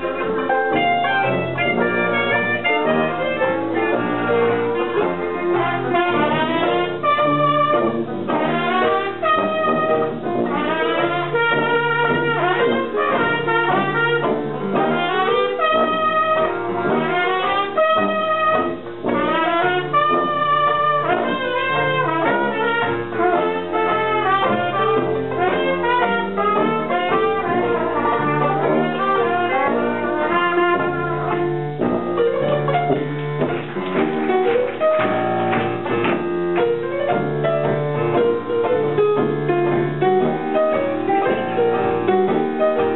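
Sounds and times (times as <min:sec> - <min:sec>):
jazz band playing: 0:00.0 - 0:42.9
trombone: 0:00.0 - 0:42.9
trumpet: 0:00.0 - 0:42.9.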